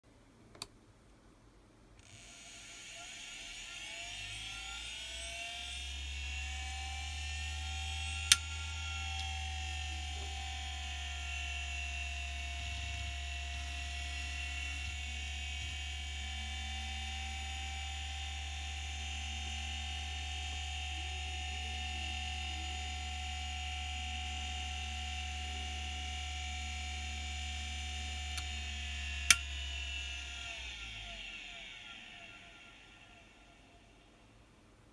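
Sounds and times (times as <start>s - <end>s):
hard drive whine: 2.0s - 34.7s.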